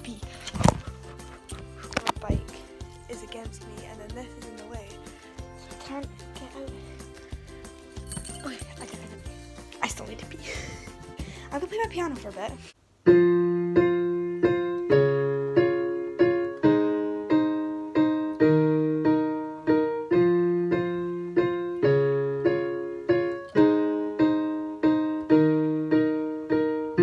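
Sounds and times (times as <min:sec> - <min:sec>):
piano chords: 0:00.0 - 0:12.0, 0:13.0 - 0:27.0.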